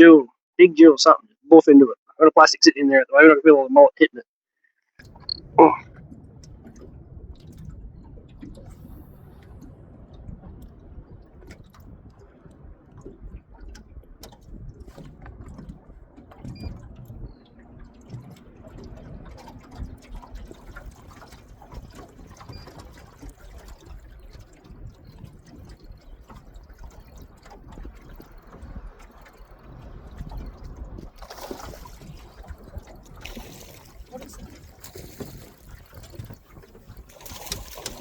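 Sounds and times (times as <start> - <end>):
low water wash: 5.0 - 38.0
small water splashes: 5.0 - 38.0
water lapping and dripping: 5.0 - 38.0.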